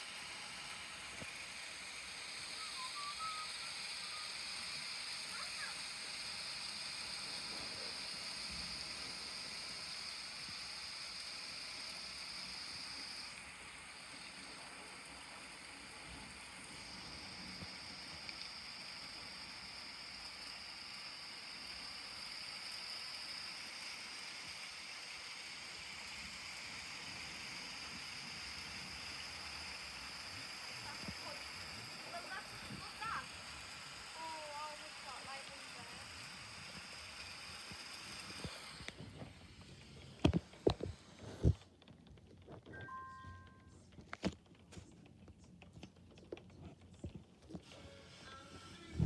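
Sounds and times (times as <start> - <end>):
steady rain hissing: 0.0 - 41.6, 47.6 - 49.0.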